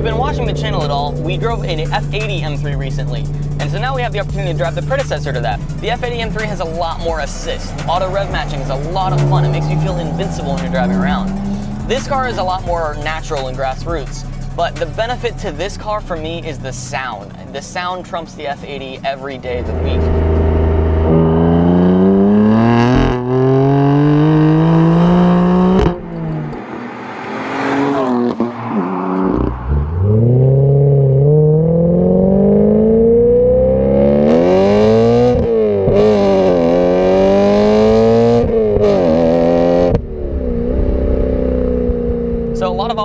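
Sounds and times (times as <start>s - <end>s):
car engine revving hard: 0.0s - 15.2s, 19.5s - 42.6s.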